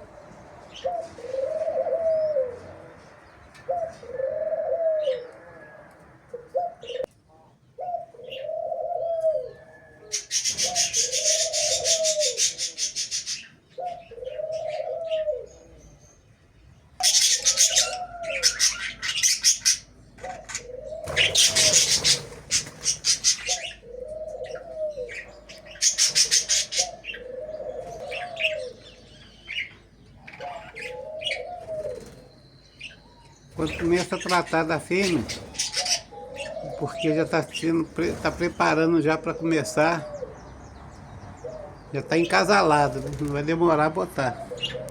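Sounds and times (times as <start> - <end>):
bird cooing: 0.7 - 16.2, 17.0 - 37.9, 38.6 - 40.8, 41.4 - 43.2, 43.9 - 44.9.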